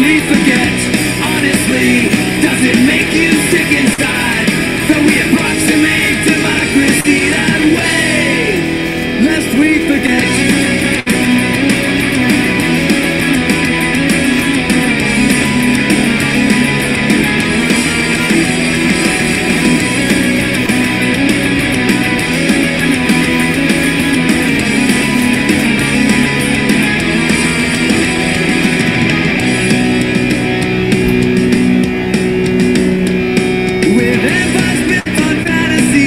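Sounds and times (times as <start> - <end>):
punk rock music with guitar: 0.0 - 36.0.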